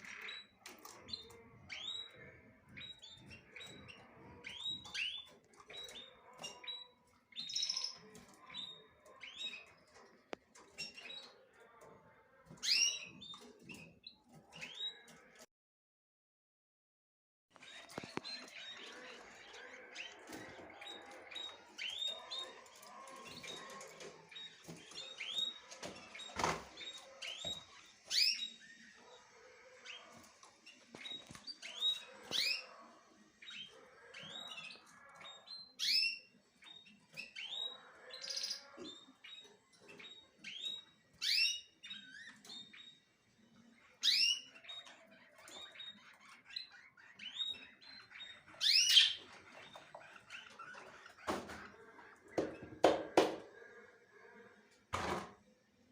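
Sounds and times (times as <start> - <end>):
small birds chirping: 0.0 - 15.5, 17.5 - 55.9.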